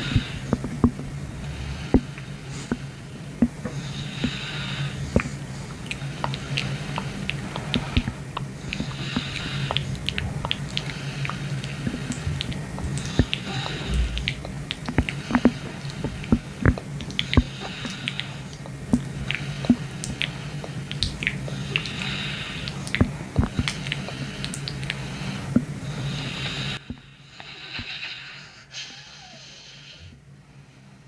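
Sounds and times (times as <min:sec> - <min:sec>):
stomach squishing and popping: 0:00.0 - 0:25.8
steady low hum: 0:00.0 - 0:31.0.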